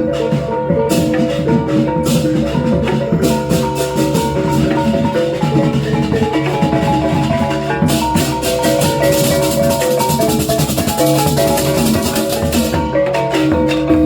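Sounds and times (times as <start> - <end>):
gamelan metallophones playing: 0.0 - 14.0.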